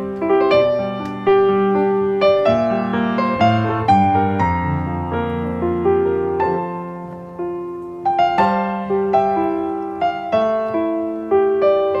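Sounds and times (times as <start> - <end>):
gentle keyboard melody: 0.0 - 12.0.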